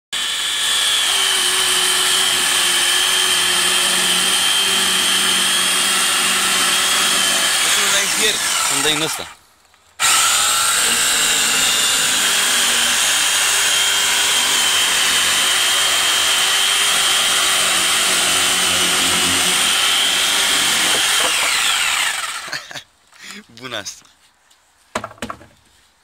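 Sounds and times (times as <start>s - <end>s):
electric saw cutting wood: 0.1s - 9.4s, 10.0s - 22.8s.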